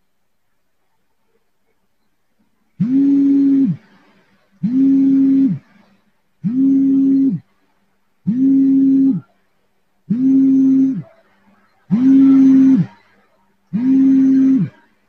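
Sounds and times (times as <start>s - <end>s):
low electronic hum-like tone: 0.0s - 15.0s.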